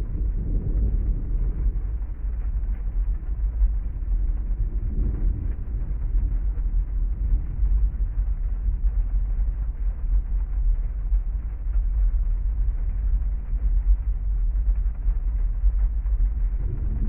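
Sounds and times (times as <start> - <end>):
heavy rain drumming on car: 0.0 - 17.0.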